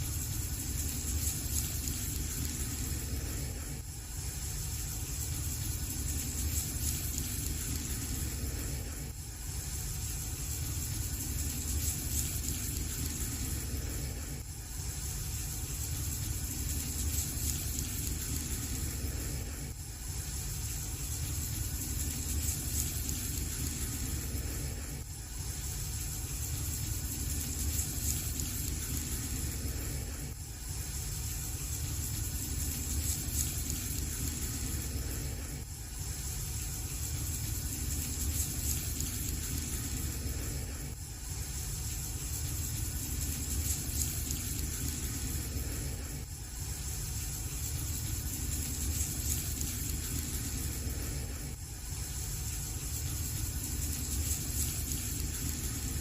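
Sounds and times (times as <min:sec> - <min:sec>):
fire burning in fireplace: 0:00.0 - 0:56.0.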